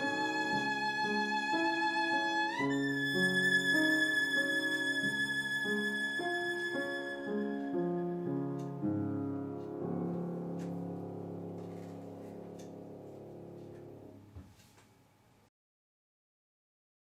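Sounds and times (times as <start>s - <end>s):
piano chords: 0.0s - 14.4s.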